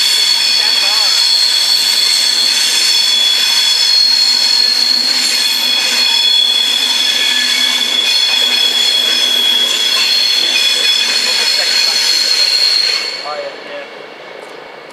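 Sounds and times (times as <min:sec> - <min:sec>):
train wheels squealing: 0:00.0 - 0:13.8
train cars rumbling: 0:00.0 - 0:14.9.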